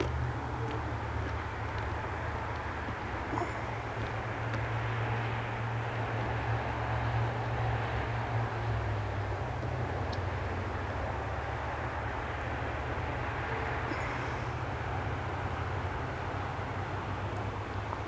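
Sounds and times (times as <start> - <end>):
outdoor rumble and hiss: 0.0 - 18.0.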